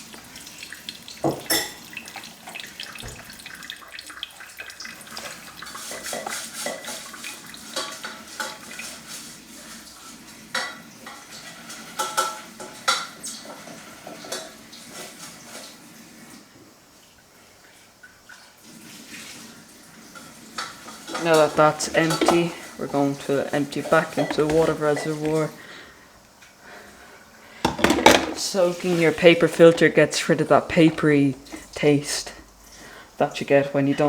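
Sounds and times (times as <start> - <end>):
coffee machine brewing: 0.0 - 34.0
water spitting and trickling: 0.0 - 34.0.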